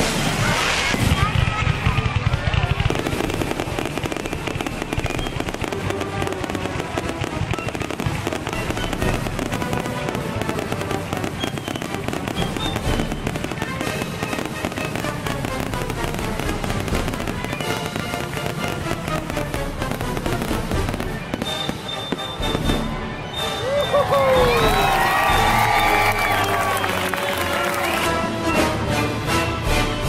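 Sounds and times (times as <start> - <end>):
fireworks crackling and popping: 0.0 - 28.3
music playing: 3.1 - 30.0.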